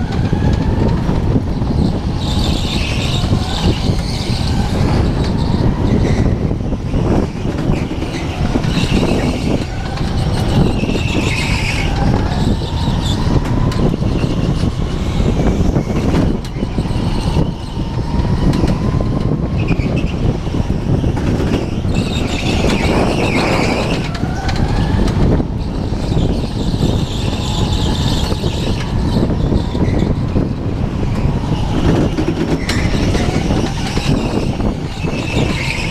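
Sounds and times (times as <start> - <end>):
go-kart engine rumble: 0.0 - 35.9.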